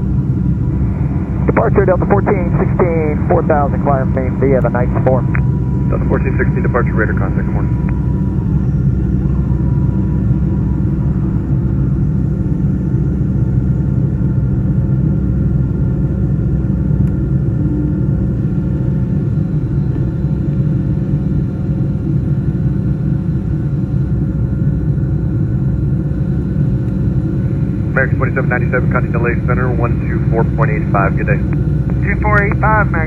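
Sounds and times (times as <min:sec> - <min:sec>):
aircraft cabin engine rumble: 0:00.0 - 0:33.0
faint engine whine: 0:00.0 - 0:33.0.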